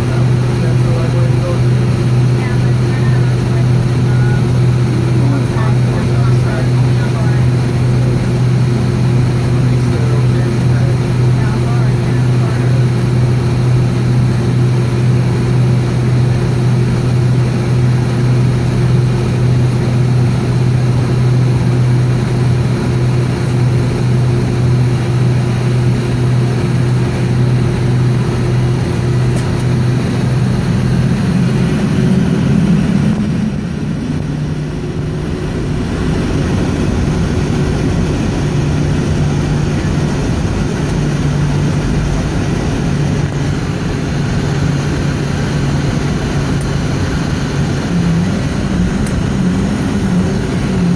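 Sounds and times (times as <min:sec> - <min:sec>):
jet engines droning in cabin: 0:00.0 - 0:50.9.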